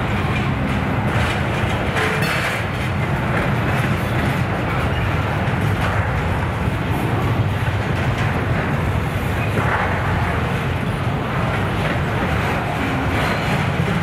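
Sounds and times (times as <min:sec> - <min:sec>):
freight train rumbling on rails: 0:00.0 - 0:14.0.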